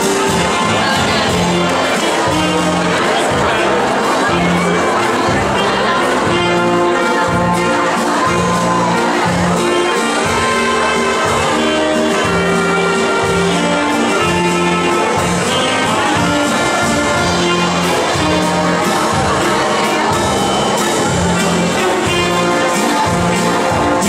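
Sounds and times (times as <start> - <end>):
loud dance music: 0.0 - 24.0.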